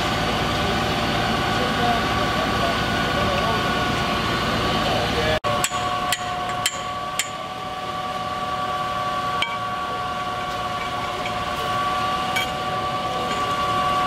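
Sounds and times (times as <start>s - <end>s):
pump whining steadily: 0.0s - 14.0s.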